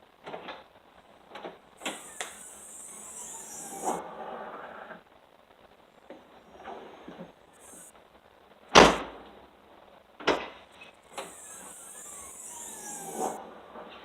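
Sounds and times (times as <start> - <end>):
high hiss: 0.0 - 14.0.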